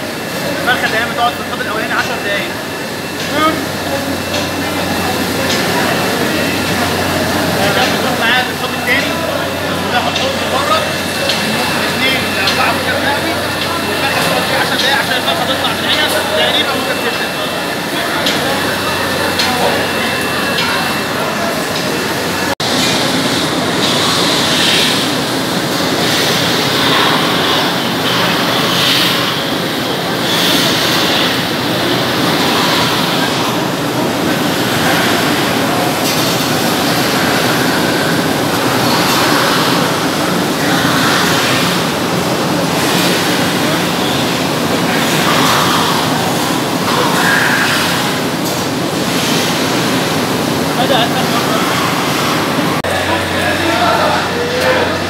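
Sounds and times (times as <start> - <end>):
indistinct voices: 0.0 - 55.0
processing machinery din: 0.0 - 55.0.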